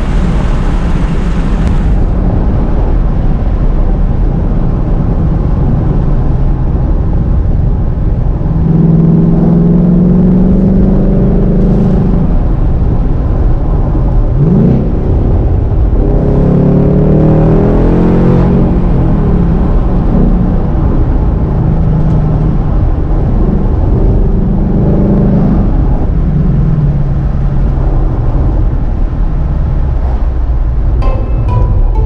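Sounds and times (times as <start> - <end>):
car engine rumbling while driving: 0.0 - 31.0.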